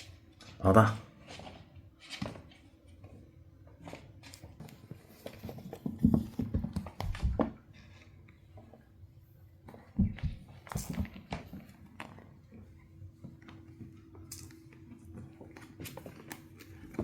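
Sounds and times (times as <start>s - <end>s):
kittens scampering on floor: 0.0s - 17.0s.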